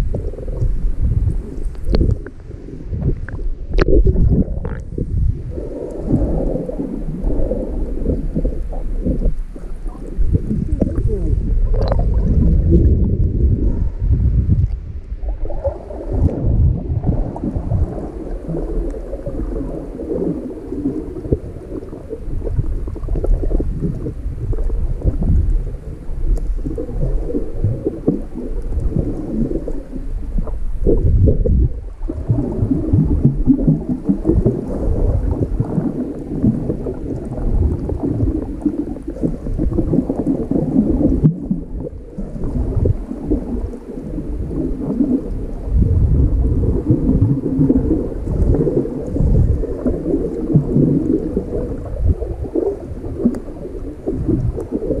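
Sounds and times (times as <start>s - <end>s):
muffled underwater rumbling: 0.0s - 55.0s.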